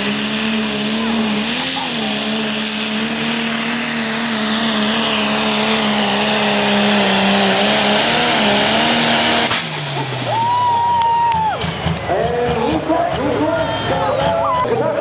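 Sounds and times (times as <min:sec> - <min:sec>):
diesel engine at full load: 0:00.0 - 0:15.0.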